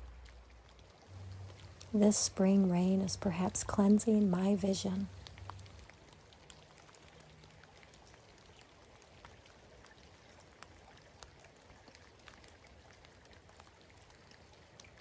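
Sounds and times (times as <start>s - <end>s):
raindrops ticking: 0.0s - 15.0s
soft rain patter: 0.0s - 15.0s.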